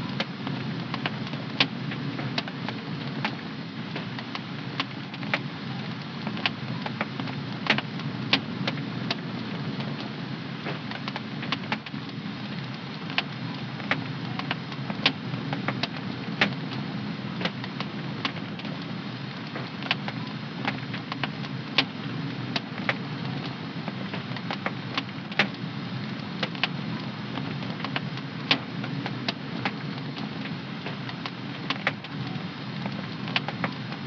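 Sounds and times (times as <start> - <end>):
wood fire crackling and popping: 0.1 - 34.0.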